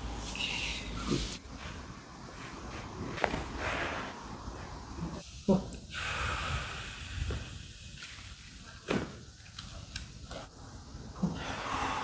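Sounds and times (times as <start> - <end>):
soft hiss: 0.0 - 12.0.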